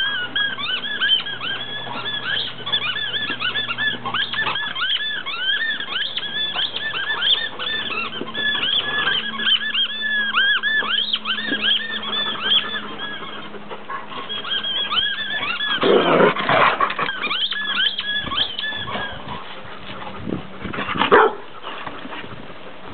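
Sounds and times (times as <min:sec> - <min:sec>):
rubber dog toy squeaking: 0:00.0 - 0:19.4.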